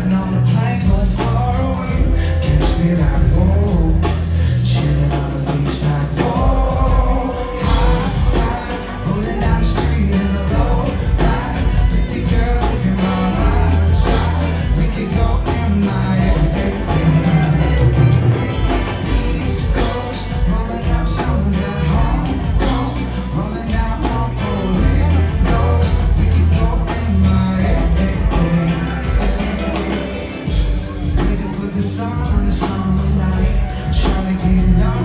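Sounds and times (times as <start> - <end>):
person singing: 0.0 - 35.0
reggae band playing live: 0.0 - 35.0.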